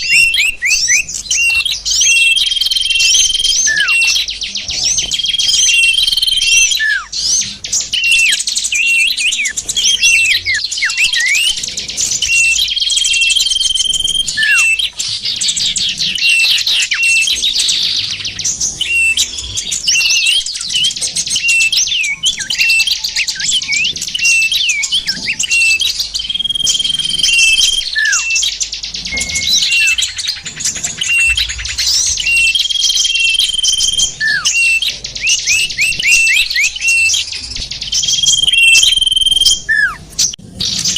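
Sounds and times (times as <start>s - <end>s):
falling chirp: 0.0s - 40.9s
songbirds chirping and twittering: 0.0s - 40.9s.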